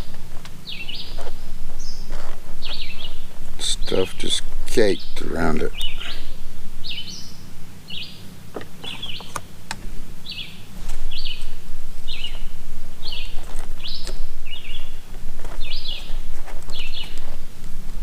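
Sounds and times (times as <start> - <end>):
bird chirping: 0.0 - 9.5, 10.2 - 17.4
steady low hum: 0.0 - 18.0.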